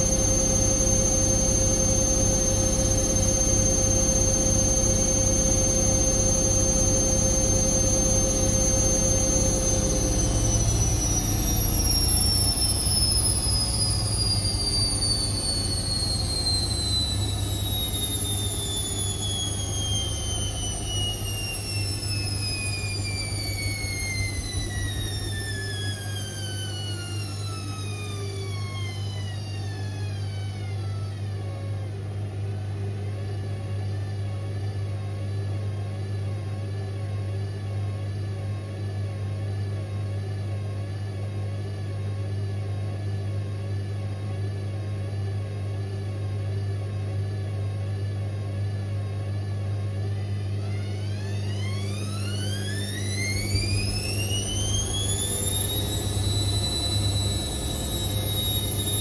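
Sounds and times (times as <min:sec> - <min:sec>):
steady low hum: 0:00.0 - 0:59.0
washing machine motor whine: 0:00.0 - 0:59.0.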